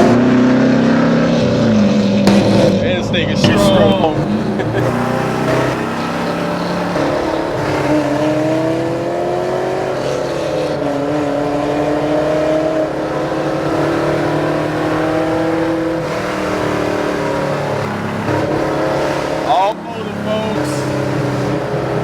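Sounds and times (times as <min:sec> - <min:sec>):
car engine pulling: 0:00.0 - 0:22.0.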